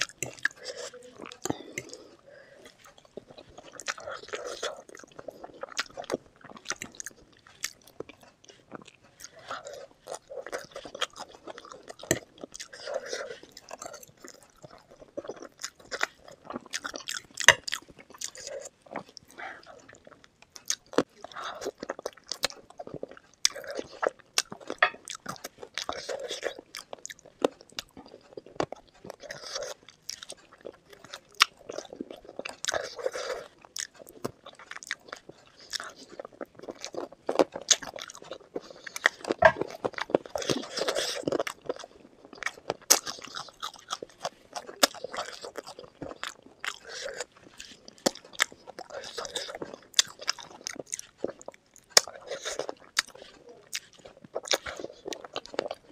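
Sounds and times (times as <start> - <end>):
person biting and chewing: 0.0 - 55.9.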